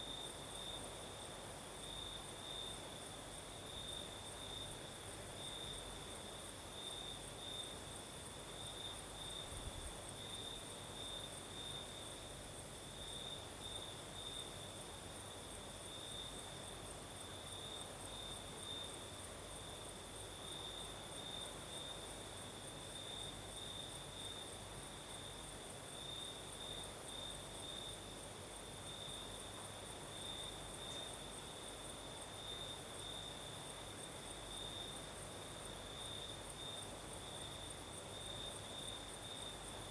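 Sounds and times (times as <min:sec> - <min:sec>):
soft even hiss: 0:00.0 - 0:39.9
crickets chirring: 0:01.8 - 0:39.9.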